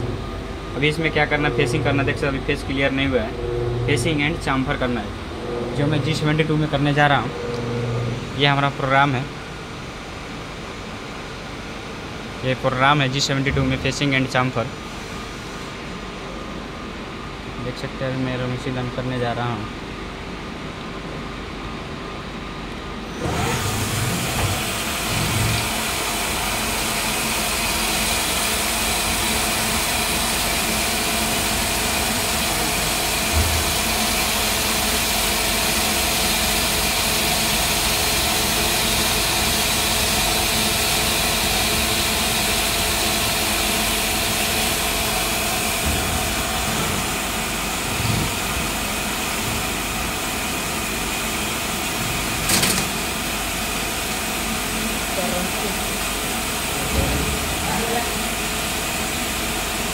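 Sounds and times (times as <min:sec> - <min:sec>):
lathe machine running: 0:00.0 - 0:12.4, 0:22.2 - 0:59.9.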